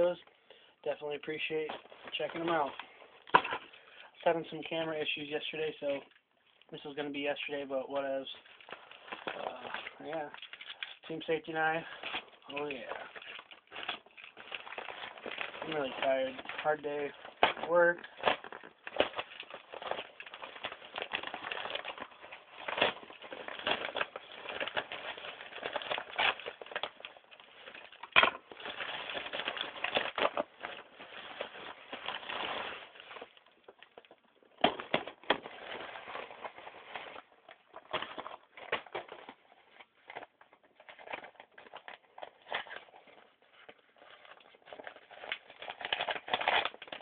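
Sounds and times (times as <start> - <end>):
packaging crackling and rustling: 0.9 - 47.0.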